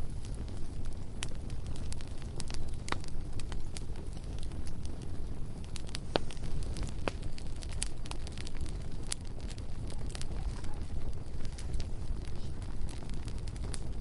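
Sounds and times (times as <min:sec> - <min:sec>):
bonfire crackling: 0:00.0 - 0:14.0
steady low rumble: 0:00.0 - 0:14.0.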